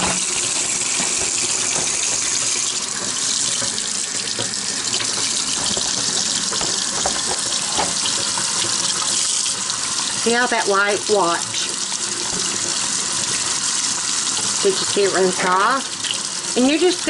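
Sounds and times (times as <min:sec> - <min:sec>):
faucet water splashing: 0:00.0 - 0:17.0.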